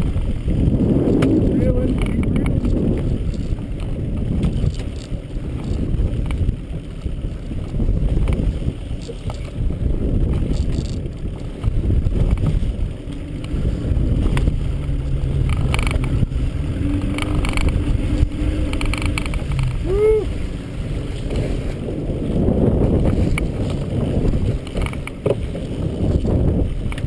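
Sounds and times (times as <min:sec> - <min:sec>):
boat engine hum: 0:00.0 - 0:27.0
wind buffeting microphone: 0:00.0 - 0:27.0.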